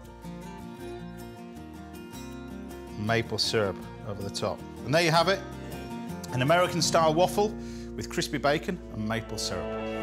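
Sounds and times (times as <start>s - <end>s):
plucked guitar tune: 0.0s - 10.0s.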